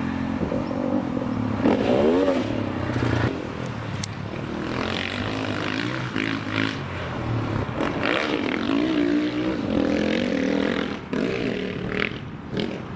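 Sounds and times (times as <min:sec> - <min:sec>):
motorcycle engine revving hard: 0:00.0 - 0:03.4, 0:04.5 - 0:06.9, 0:07.8 - 0:12.8.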